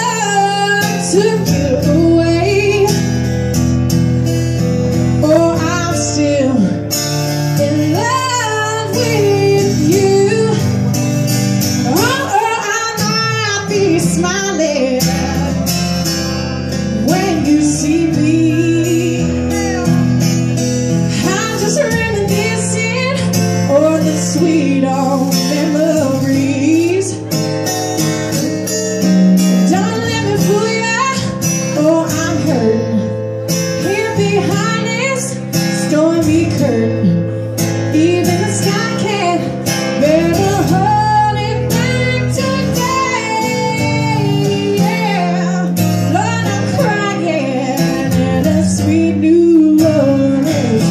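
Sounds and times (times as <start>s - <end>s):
acoustic guitar strumming: 0.0s - 50.9s
woman singing blues: 0.0s - 50.9s.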